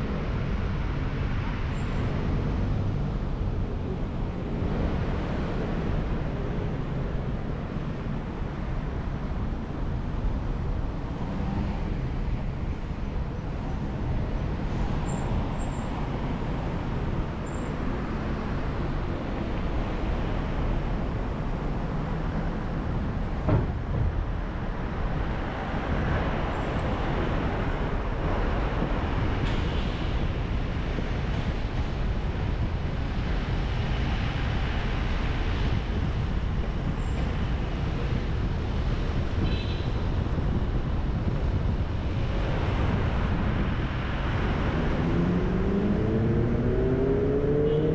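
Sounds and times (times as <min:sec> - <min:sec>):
car driving through city traffic: 0:00.0 - 0:47.9.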